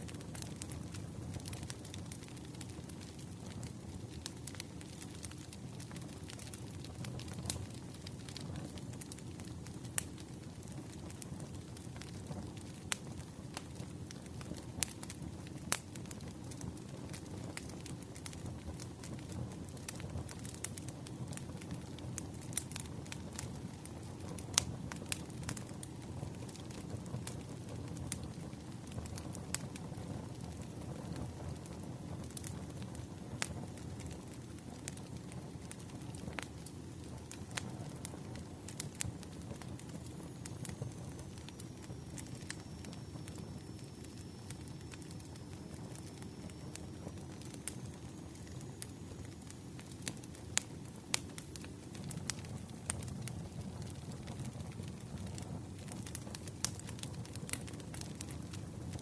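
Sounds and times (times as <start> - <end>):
fire pops: 0.0 - 59.0
wood fire crackling: 0.0 - 59.0.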